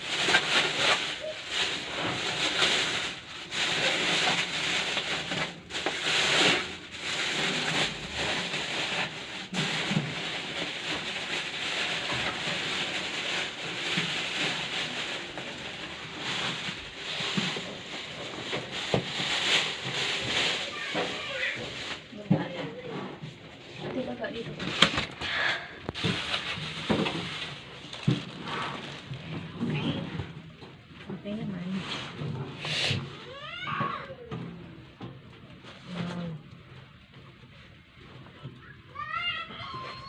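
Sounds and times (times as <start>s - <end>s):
plastic wrapping rustling: 0.0s - 38.3s, 39.0s - 40.0s.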